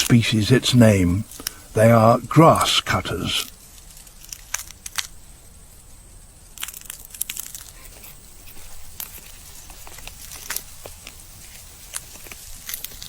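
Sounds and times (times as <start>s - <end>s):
ants snipping grass: 0.0s - 5.2s, 6.5s - 13.0s
low steady background: 0.0s - 13.0s.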